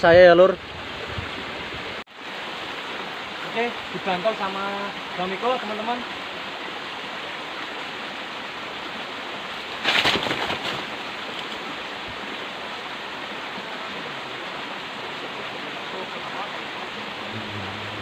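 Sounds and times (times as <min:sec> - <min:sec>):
rushing outdoor background noise: 0:00.1 - 0:18.0.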